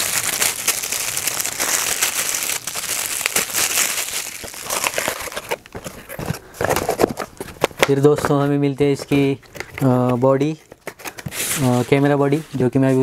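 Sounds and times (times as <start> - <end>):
plastic wrapping crinkling: 0.0 - 11.9
hands rustling in cardboard box: 0.2 - 13.0.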